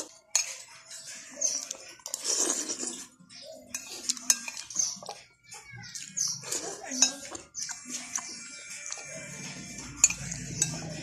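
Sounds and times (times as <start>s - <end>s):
spoon scraping ceramic plate: 0.0s - 5.2s, 6.0s - 11.0s.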